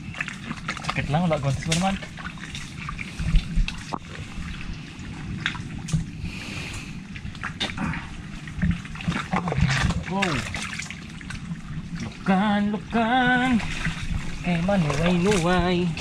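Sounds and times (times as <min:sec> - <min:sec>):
muddy water splashing and trickling: 0:00.0 - 0:16.0.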